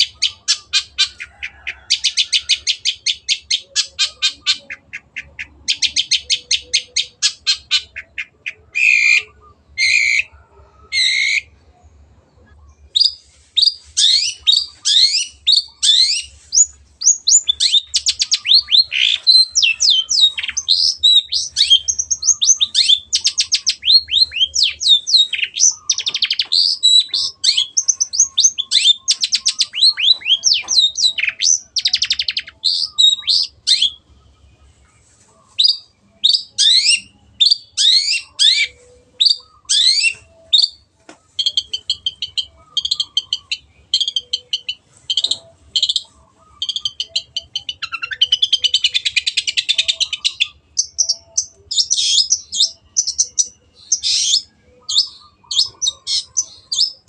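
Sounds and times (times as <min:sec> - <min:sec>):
bird singing fast chattering song: 0:00.0 - 0:10.3, 0:12.6 - 0:34.6, 0:35.5 - 0:57.0.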